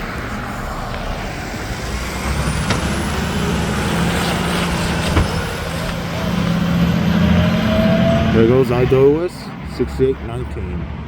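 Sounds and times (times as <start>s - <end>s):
garbage truck diesel engine: 0.0s - 9.8s.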